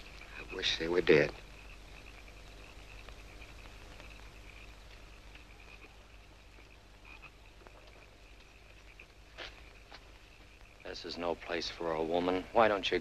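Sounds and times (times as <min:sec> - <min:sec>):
film soundtrack hum and hiss: 0:00.0 - 0:13.0
frogs chirping: 0:00.0 - 0:13.0.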